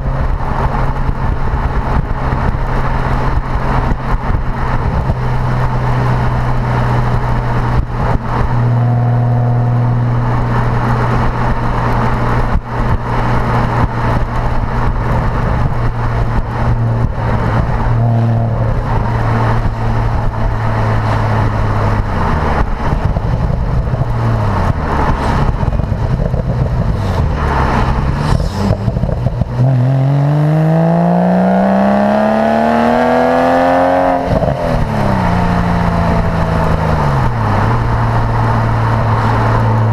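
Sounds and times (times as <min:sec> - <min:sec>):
sports car engine accelerating: 0:00.0 - 0:39.9.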